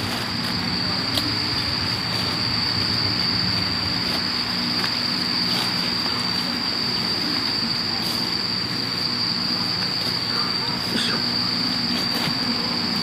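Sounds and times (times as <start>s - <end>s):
insects shrilling: 0.0s - 13.0s.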